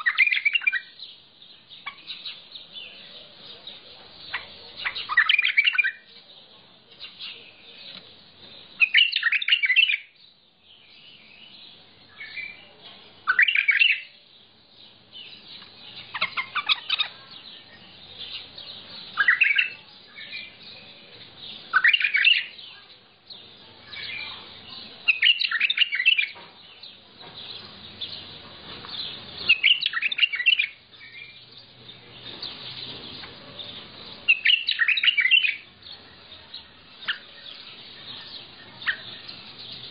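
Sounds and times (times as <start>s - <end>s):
bird singing warbled phrases: 0.0s - 39.9s
soft bird chirps: 0.0s - 39.9s.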